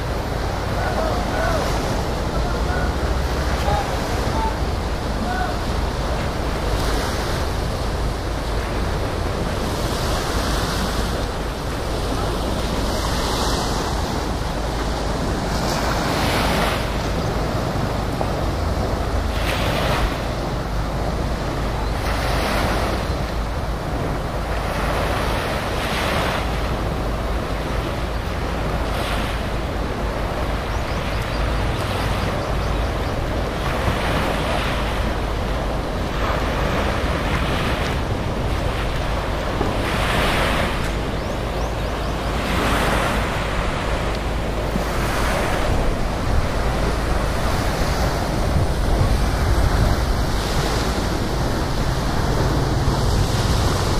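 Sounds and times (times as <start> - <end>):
small waves washing ashore: 0.0 - 53.9
wind rumble on microphone: 0.0 - 53.9.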